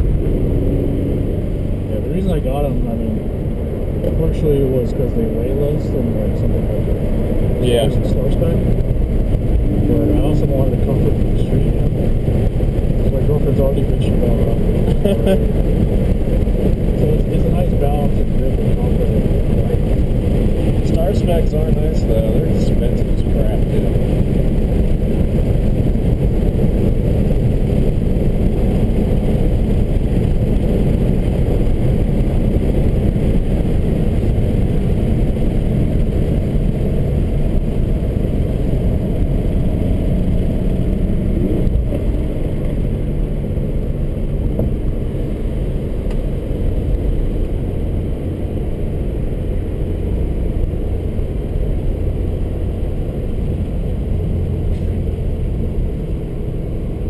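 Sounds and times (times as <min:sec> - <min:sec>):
car engine under load: 0:00.0 - 0:57.0
road and tyre noise: 0:00.0 - 0:57.0.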